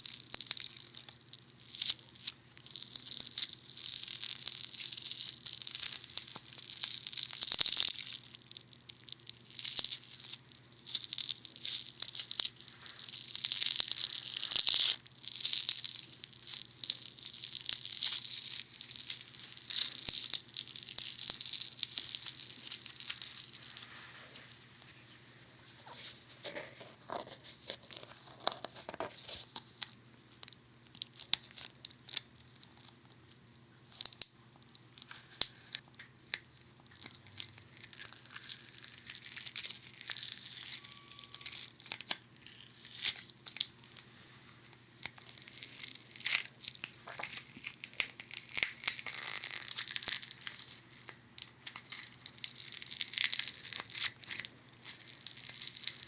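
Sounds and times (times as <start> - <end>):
foam crackling and popping: 0.0 - 24.2, 33.9 - 44.1, 45.0 - 56.0.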